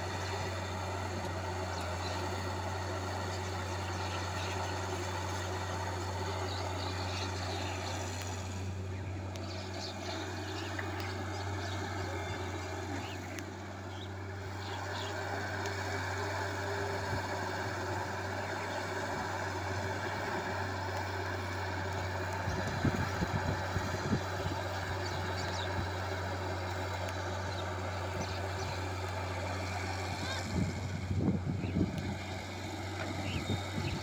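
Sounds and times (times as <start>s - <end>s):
excavator diesel engine humming: 0.0s - 34.0s.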